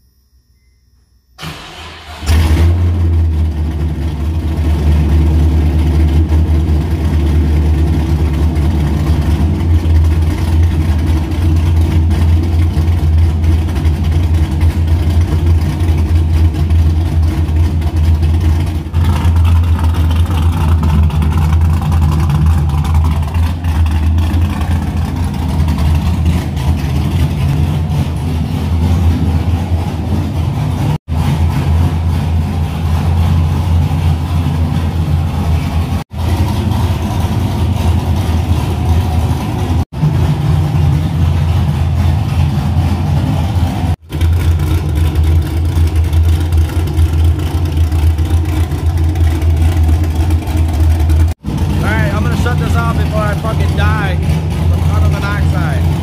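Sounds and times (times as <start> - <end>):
car engine running: 1.4 - 56.0.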